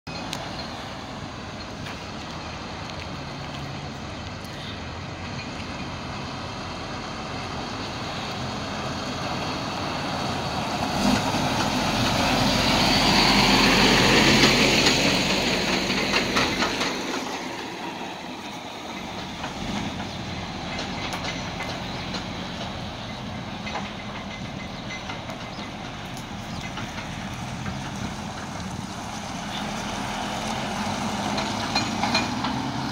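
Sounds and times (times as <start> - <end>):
truck engine and tyre noise: 0.0 - 32.9
trailer clattering: 0.1 - 32.9.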